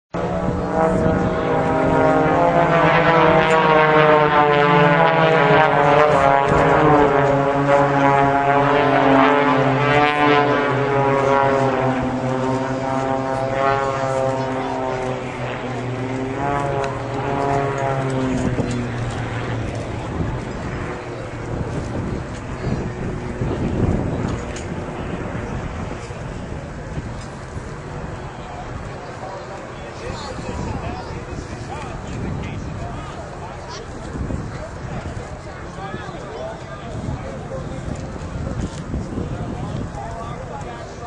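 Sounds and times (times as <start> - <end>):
propeller aircraft engine drone: 0.1 - 41.0.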